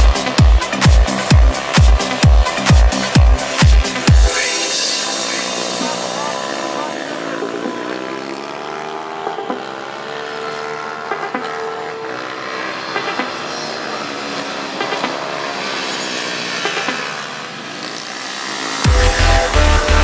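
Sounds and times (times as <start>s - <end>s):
pitbike engines revving: 0.0s - 20.0s.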